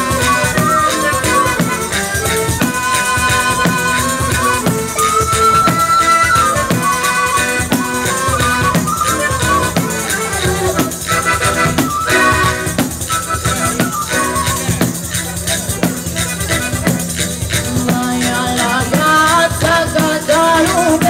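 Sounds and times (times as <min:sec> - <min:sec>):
accordion: 0:00.0 - 0:21.0
acoustic guitar: 0:00.0 - 0:21.0
frame drum with jingles: 0:00.0 - 0:21.0.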